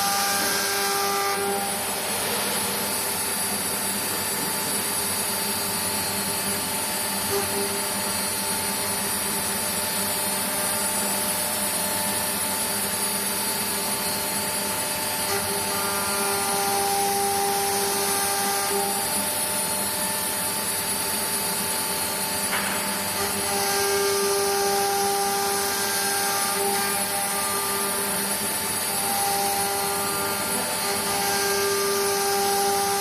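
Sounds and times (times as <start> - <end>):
cnc router spindle whine: 0.0 - 33.0.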